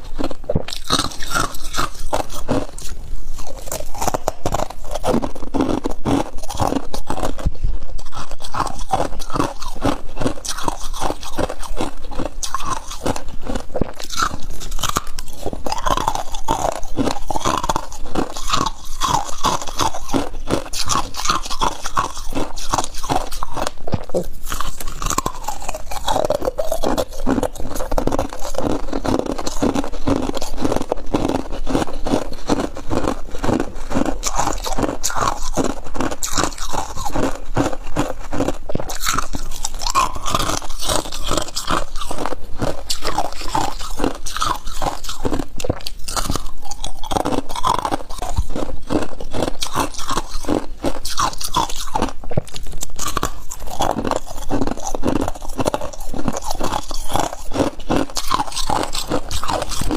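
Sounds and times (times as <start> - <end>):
person chewing hard ice: 0.0 - 59.9.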